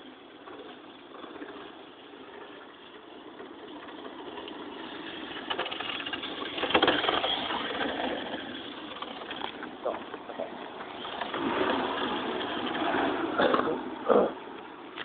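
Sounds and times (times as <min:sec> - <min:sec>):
rc car motor and tyre noise: 0:00.0 - 0:15.0.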